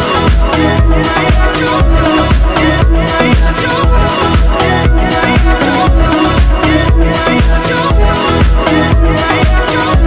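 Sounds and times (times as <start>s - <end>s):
kick-drum beat: 0.0s - 10.0s
upbeat song: 0.0s - 10.0s.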